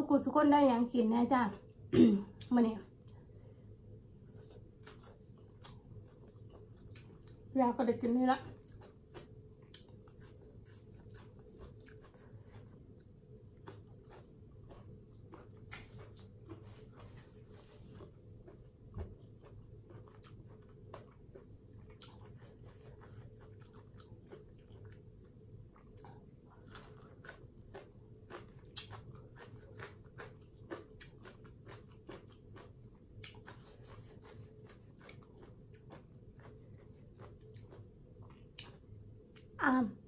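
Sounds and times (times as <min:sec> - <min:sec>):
chewing with wet clicks: 0:04.4 - 0:07.5, 0:08.4 - 0:17.1, 0:18.0 - 0:39.6.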